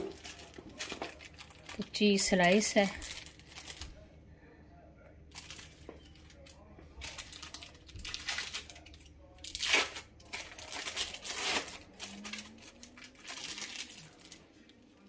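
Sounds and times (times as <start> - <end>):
plastic film wrappers crinkling: 0.0 - 4.0, 5.3 - 15.0.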